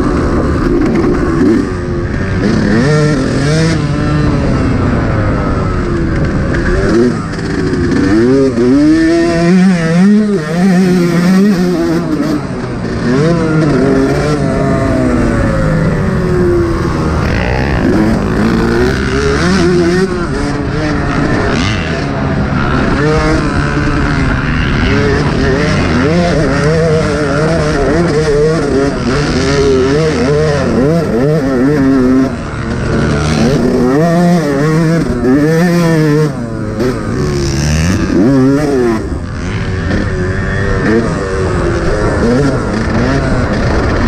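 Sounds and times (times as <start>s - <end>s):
motocross engine revving: 0.0s - 44.0s.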